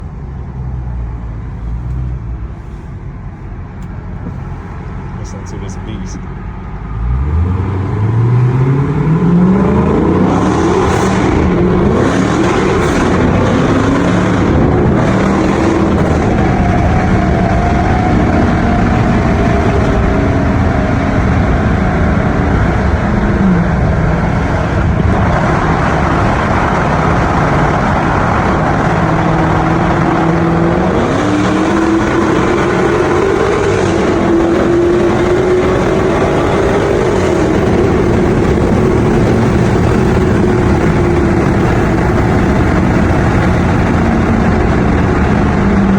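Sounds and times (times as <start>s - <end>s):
car engine revving loudly: 6.8s - 45.9s.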